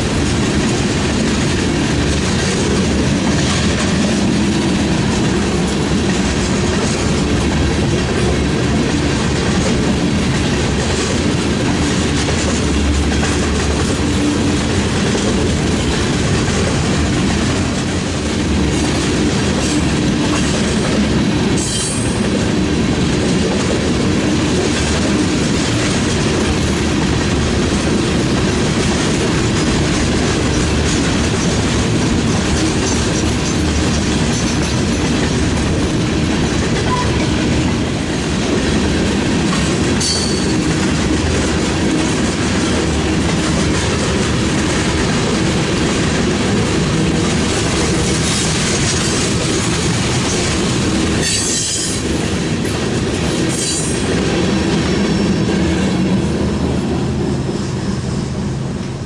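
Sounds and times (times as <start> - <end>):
wheels clicking over rail joints: 0.0 - 54.8
freight train rumbling past: 0.0 - 59.0.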